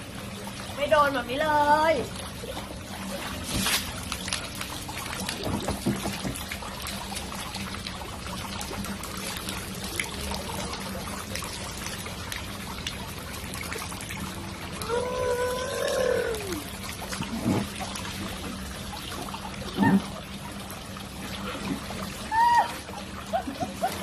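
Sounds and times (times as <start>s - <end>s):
water running and trickling: 0.0s - 24.0s.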